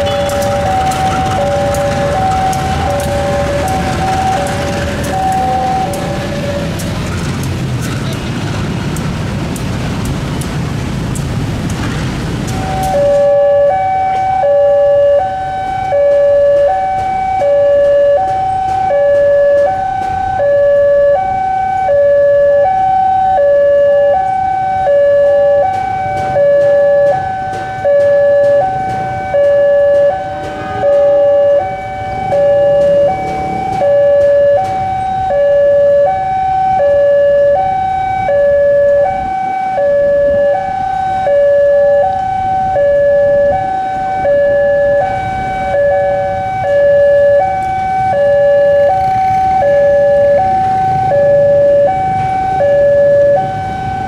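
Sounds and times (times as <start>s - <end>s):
level crossing two-tone alarm: 0.0s - 6.8s, 12.6s - 54.0s.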